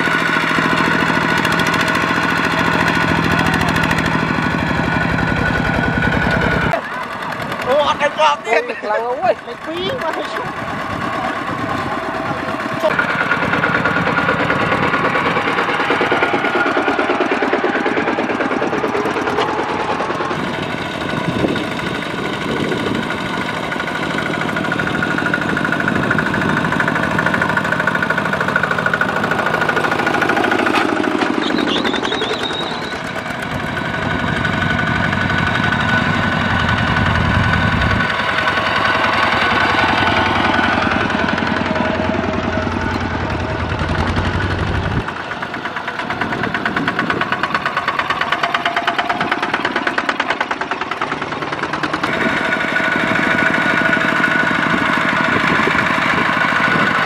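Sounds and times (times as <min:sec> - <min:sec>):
diesel tractor engines chugging: 0:00.0 - 0:57.0.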